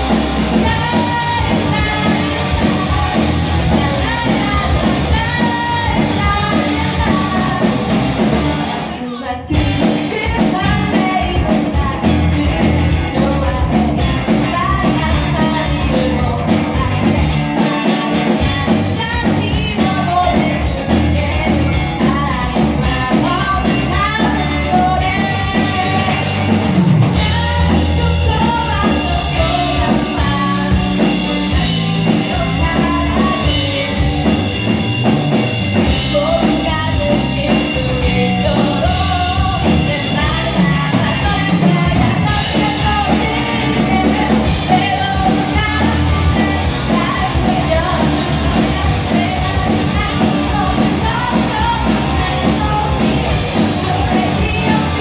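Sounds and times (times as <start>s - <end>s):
woman singing: 0.0s - 8.2s, 8.8s - 55.0s
rock band playing: 0.0s - 55.0s.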